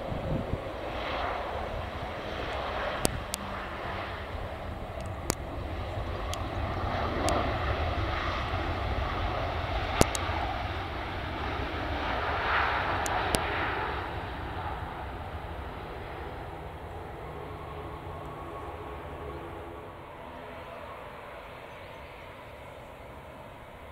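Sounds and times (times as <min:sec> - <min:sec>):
jet engines roaring: 0:00.0 - 0:23.9.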